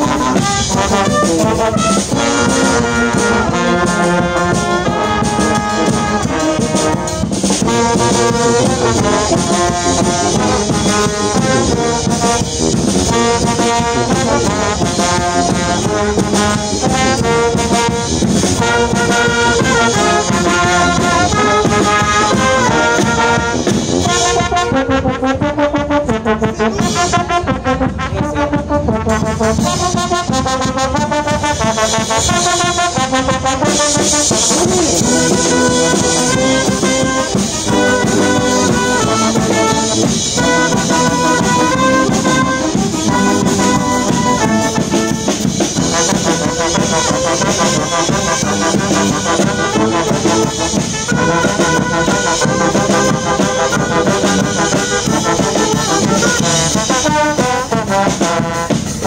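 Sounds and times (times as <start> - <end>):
lively brass band music: 0.0 - 59.0.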